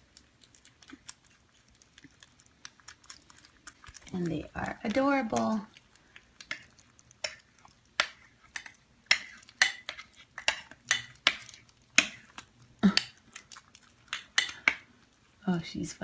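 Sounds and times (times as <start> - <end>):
kittens eating kibble from bowl: 0.0 - 16.0.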